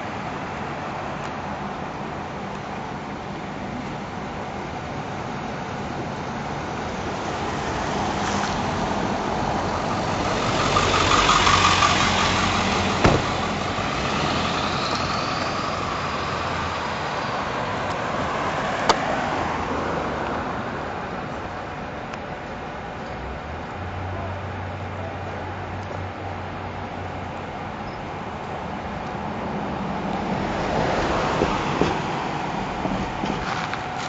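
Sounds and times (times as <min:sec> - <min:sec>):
car engine and tyre noise: 0:00.0 - 0:34.0.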